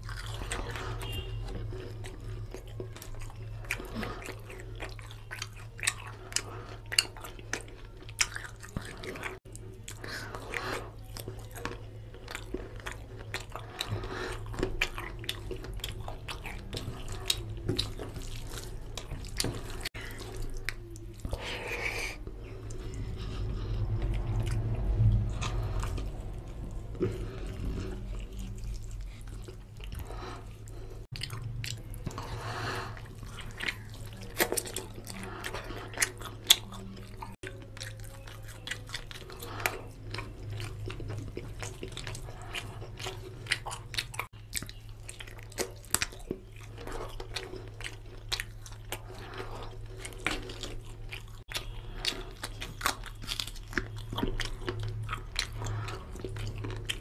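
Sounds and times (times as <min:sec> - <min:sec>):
chewing and mouth smacking: 0:00.0 - 0:57.0
steady low hum: 0:00.0 - 0:57.0.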